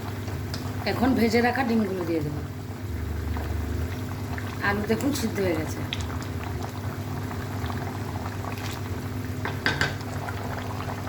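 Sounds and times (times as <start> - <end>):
curry simmering and bubbling: 0.0 - 11.0.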